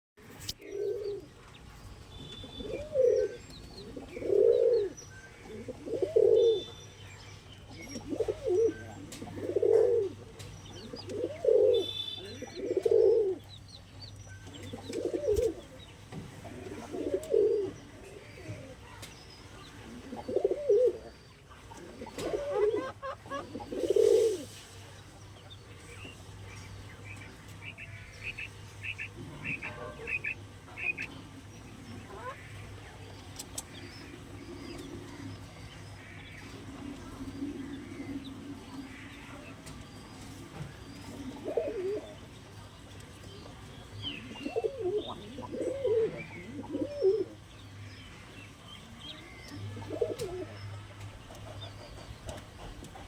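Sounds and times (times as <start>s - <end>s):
pigeons cooing: 0.6s - 1.4s, 2.2s - 6.8s, 7.6s - 13.7s, 14.4s - 53.0s.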